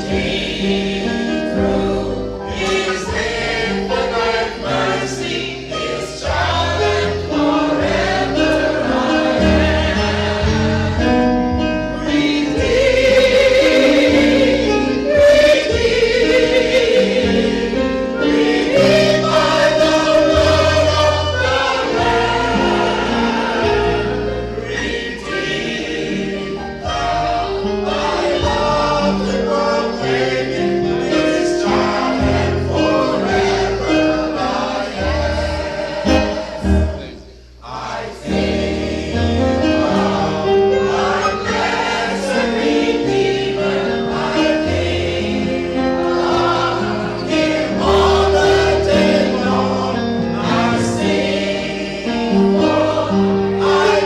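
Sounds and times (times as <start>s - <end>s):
choir singing with accompaniment: 0.0s - 54.0s.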